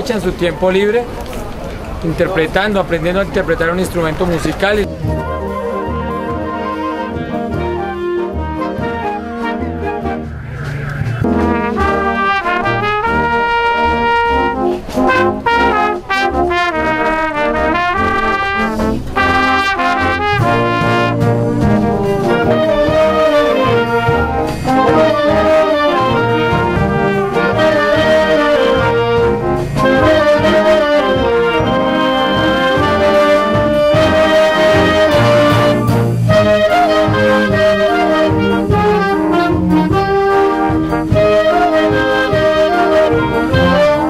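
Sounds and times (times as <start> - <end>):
symphonic band playing: 3.8 - 44.0.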